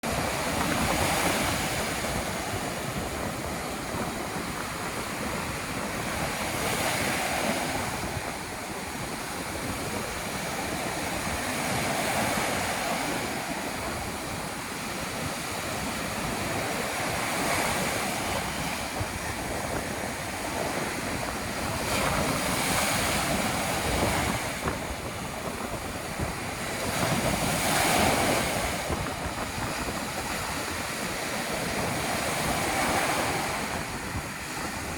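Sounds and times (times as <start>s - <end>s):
ocean surf breaking on beach: 0.0s - 34.9s
wind blowing over microphone: 0.0s - 34.9s.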